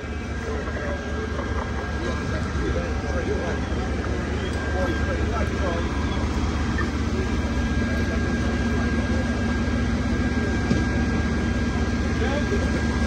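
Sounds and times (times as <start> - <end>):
diesel engines droning: 0.0 - 13.0
thin high whine: 0.0 - 13.0.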